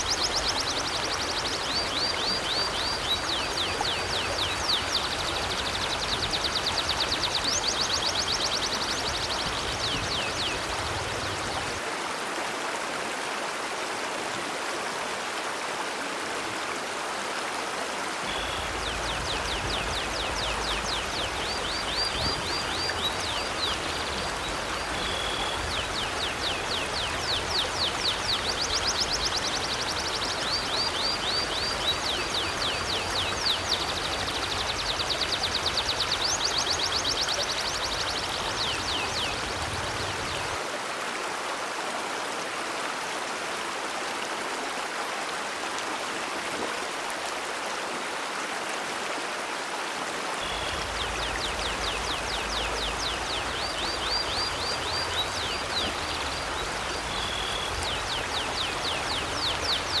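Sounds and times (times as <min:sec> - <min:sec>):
river water flowing: 0:00.0 - 1:00.0.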